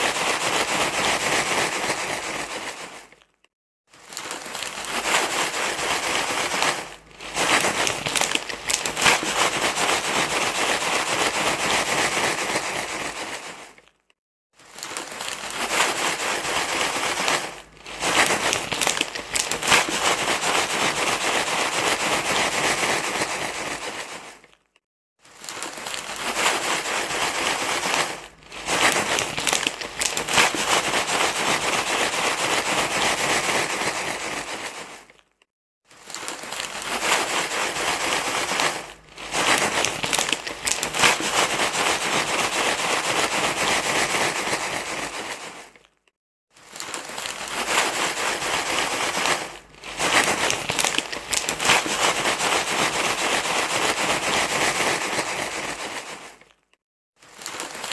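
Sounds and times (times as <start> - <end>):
crinkling and rustling: 0.0 - 57.9.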